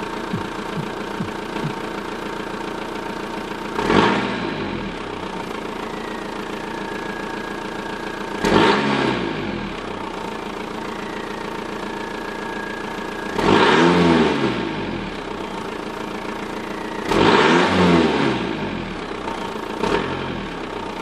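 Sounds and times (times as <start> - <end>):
diesel car engine idling and revving: 0.0 - 21.0.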